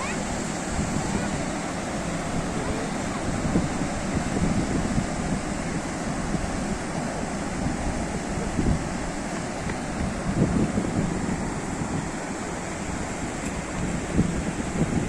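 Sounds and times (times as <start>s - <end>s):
waves washing on shore: 0.0s - 15.0s
wind rumbling on microphone: 0.0s - 15.0s.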